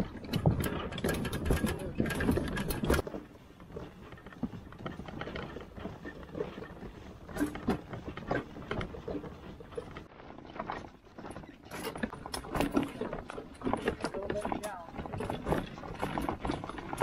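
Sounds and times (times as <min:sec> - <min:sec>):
rattling gear: 0:00.0 - 0:17.0.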